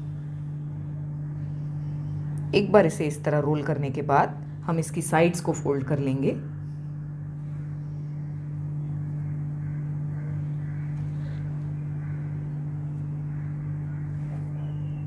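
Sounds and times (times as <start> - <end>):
mains electrical hum: 0.0 - 15.0.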